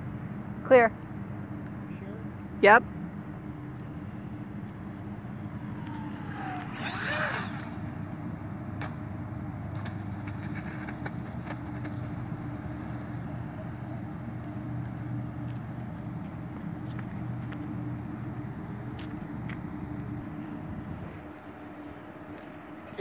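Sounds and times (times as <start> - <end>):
electric ducted fans whining: 0.0 - 23.0
steady low hum: 0.0 - 23.0.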